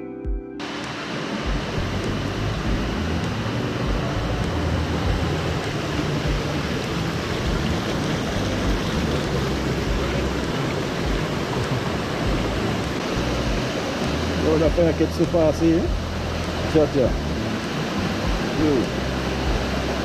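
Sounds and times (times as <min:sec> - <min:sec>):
river water rushing: 0:00.6 - 0:20.0.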